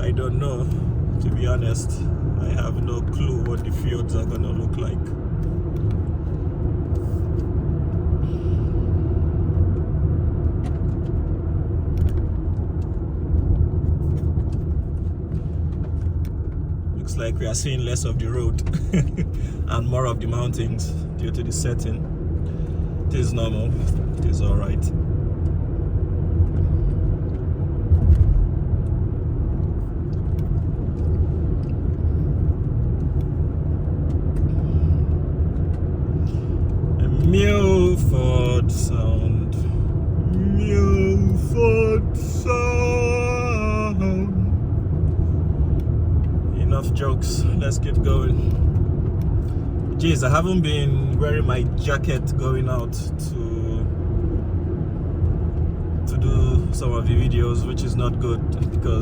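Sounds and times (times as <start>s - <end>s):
engine and tyre rumble: 0.0s - 59.0s.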